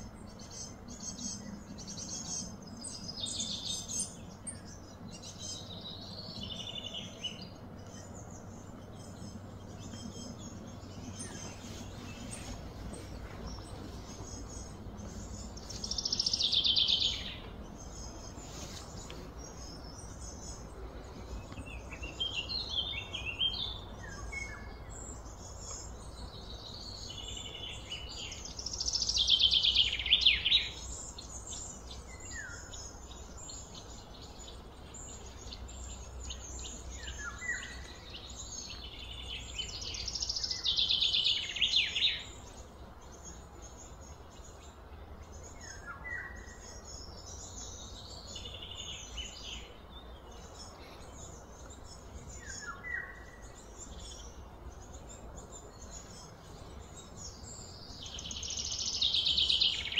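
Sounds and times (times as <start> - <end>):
birds singing and chirping: 0.0 - 59.9
low background rumble: 0.0 - 59.9.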